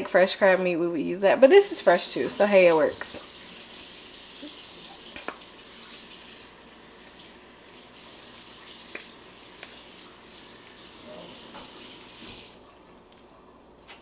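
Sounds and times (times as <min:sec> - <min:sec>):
broth simmering in a pot: 0:01.6 - 0:13.1.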